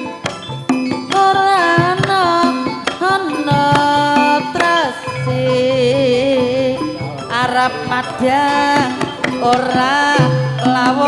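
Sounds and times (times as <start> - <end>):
sustained bending melody: 0.0 - 10.9.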